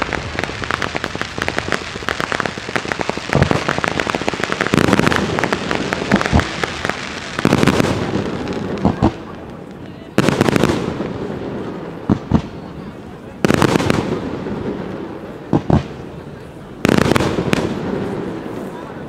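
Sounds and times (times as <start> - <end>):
deep fireworks booms: 0.0 - 19.0
fireworks crackling and popping: 0.0 - 19.0.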